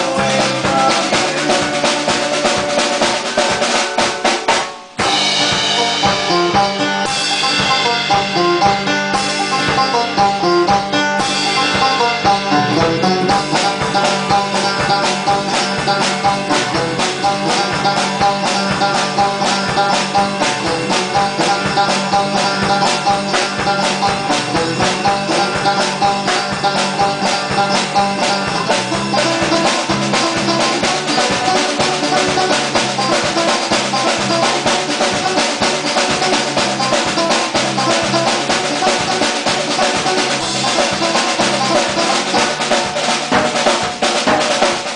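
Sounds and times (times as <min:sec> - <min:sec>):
steady drum beat: 0:00.0 - 0:44.9
strummed acoustic and electric guitars: 0:00.0 - 0:44.9.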